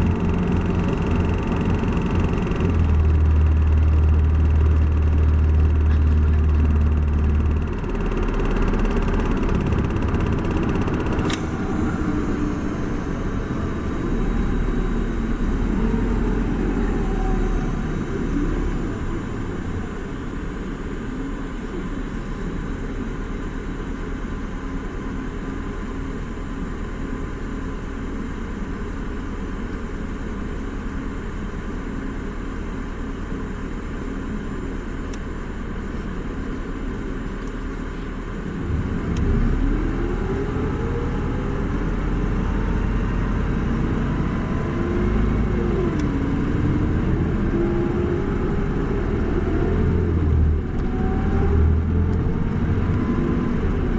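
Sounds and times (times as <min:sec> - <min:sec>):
bus diesel engine accelerating: 0:00.0 - 0:53.9.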